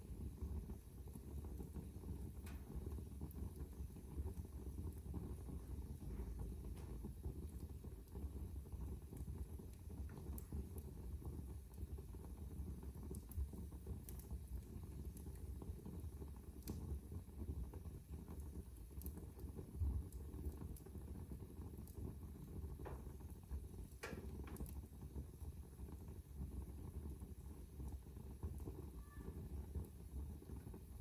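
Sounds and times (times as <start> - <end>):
fire burning in a fireplace: 0.0 - 31.0
fire crackles and pops: 0.0 - 31.0.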